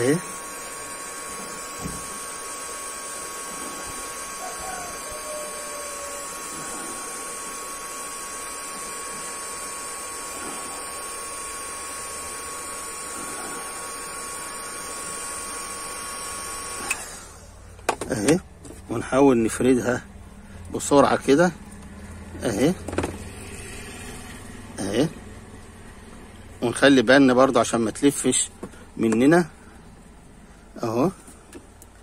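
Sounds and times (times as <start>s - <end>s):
heat gun blowing air: 0.0s - 18.4s, 19.8s - 31.9s.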